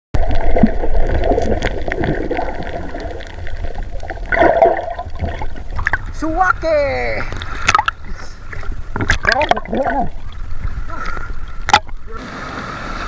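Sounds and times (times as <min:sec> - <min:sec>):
underwater gurgling and sloshing: 0:00.2 - 0:13.0.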